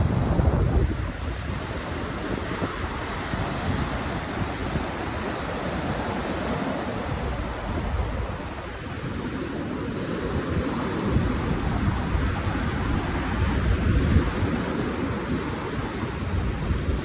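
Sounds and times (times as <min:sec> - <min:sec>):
surf breaking on a beach: 0:00.0 - 0:17.0
wind rumbling on microphone: 0:00.0 - 0:17.0.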